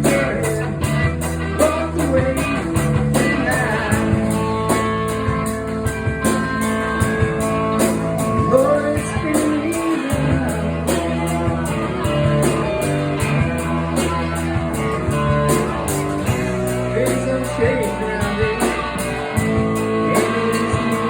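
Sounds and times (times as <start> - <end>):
band playing blues-rock: 0.0 - 21.0
guitar: 0.0 - 21.0
person singing: 0.0 - 21.0.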